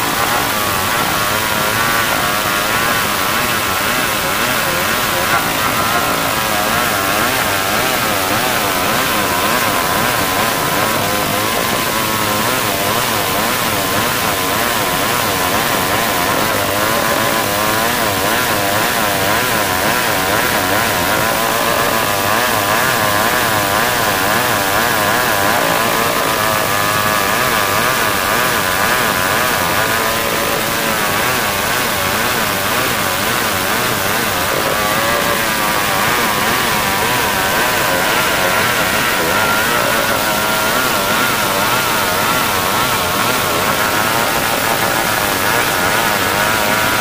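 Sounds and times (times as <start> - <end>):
chainsaw cutting wood: 0.0 - 47.0.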